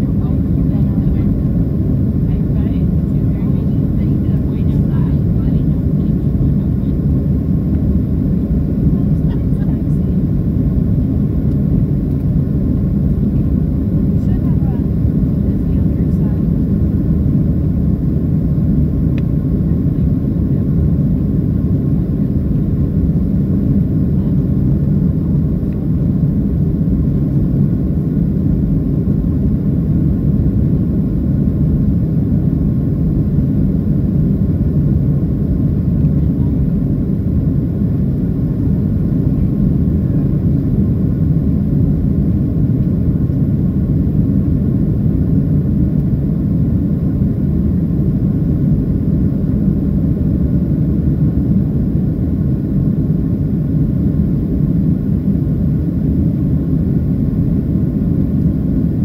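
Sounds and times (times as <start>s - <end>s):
faint steady whine: 0.0s - 59.0s
jet engine low rumble: 0.0s - 59.0s.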